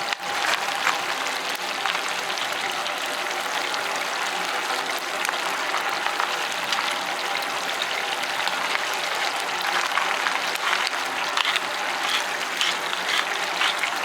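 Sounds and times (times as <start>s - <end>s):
steak sizzling over wood fire: 0.0s - 2.5s, 4.8s - 14.0s.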